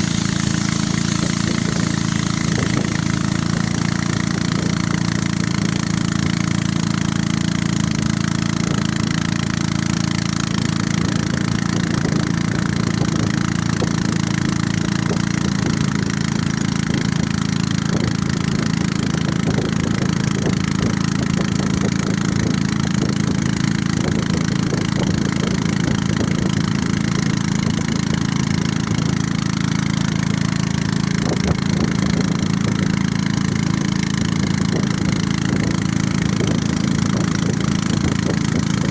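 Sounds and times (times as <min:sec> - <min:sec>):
boat motor droning: 0:00.0 - 0:38.9
spray and wind hiss: 0:00.0 - 0:38.9.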